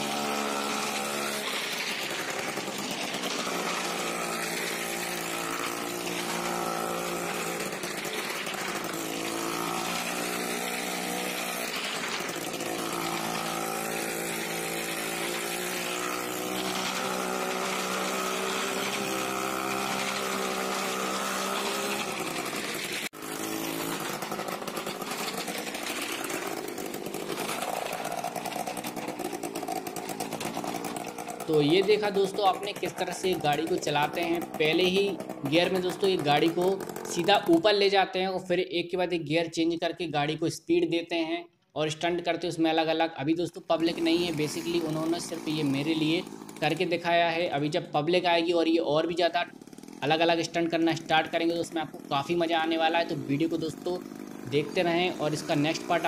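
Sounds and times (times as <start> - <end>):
motorbike engine revving: 0.0 - 38.2, 43.7 - 56.0.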